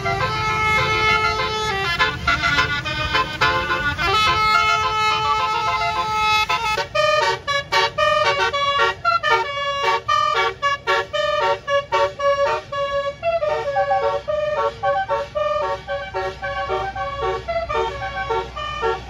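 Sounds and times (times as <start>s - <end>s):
musical air horn playing tune: 0.0s - 19.0s.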